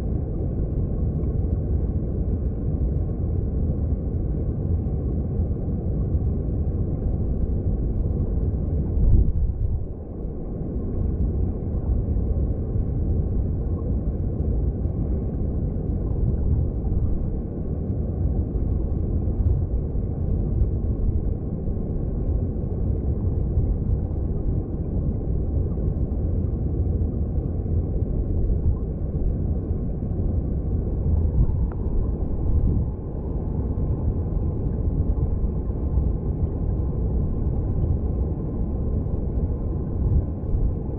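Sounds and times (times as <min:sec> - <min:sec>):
stream water heard underwater: 0:00.0 - 0:40.9.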